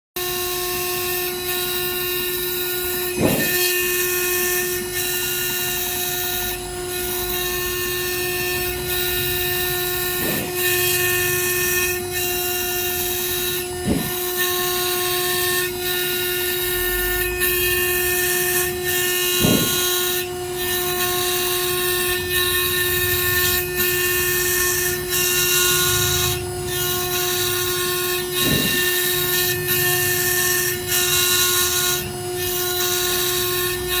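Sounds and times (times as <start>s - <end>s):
cnc spindle whining and cutting: 0.2s - 34.0s.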